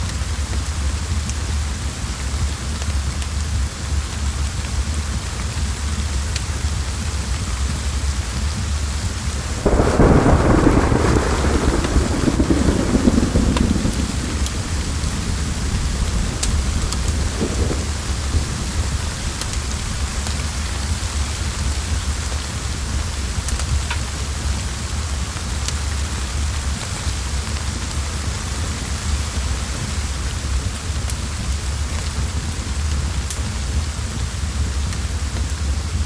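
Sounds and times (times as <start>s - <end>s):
deep continuous rumble: 0.0s - 36.0s
heavy rain: 0.0s - 36.0s.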